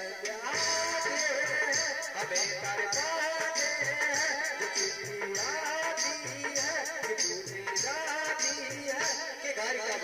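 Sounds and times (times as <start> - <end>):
man singing into a microphone: 0.0 - 10.0
rhythmic rattling percussion: 0.4 - 10.0.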